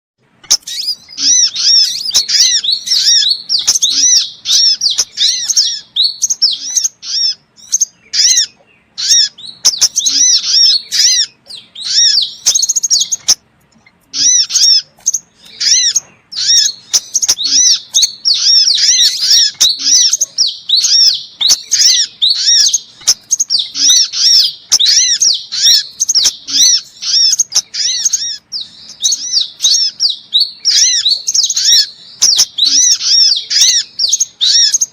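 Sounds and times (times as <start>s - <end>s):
high-pitched bird chirping: 0.4s - 34.9s.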